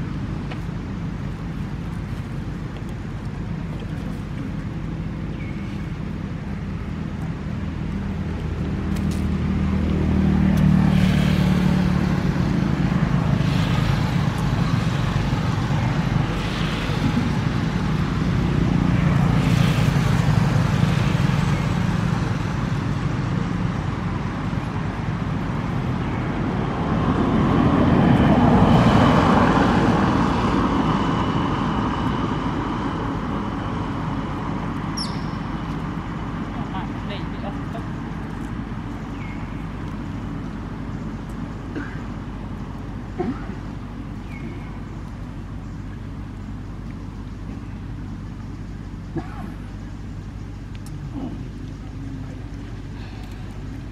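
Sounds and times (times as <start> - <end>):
traffic engine rumble: 0.0 - 53.9.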